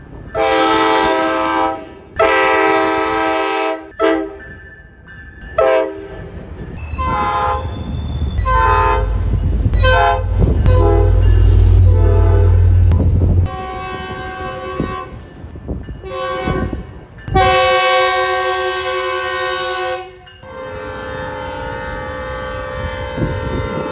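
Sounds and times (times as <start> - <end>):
train rumble: 0.0 - 23.9
train air horn blasts: 0.4 - 4.4, 5.6 - 6.2, 7.0 - 15.2, 16.0 - 23.9.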